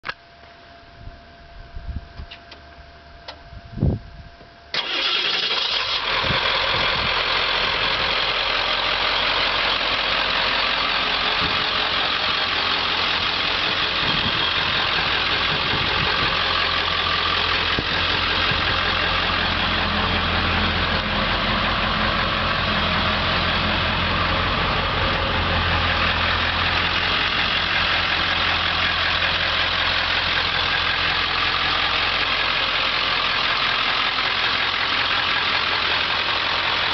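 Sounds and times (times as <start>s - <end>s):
truck engine starting and idling: 4.7s - 36.9s.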